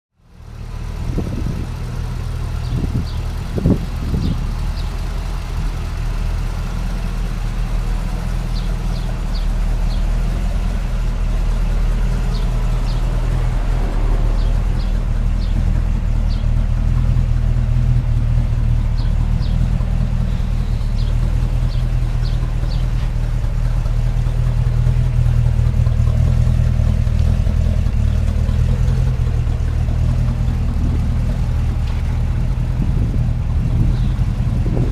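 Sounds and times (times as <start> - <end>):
pickup truck engine running: 0.2 - 34.9.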